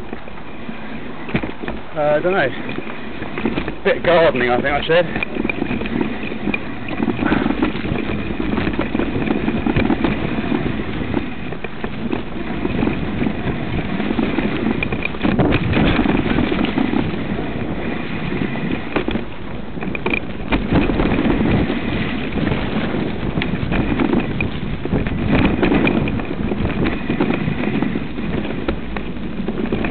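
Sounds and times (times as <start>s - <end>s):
bike knocking and rattling: 0.0s - 29.9s
tyre rumble: 0.0s - 29.9s
wind rush on microphone: 0.0s - 29.9s.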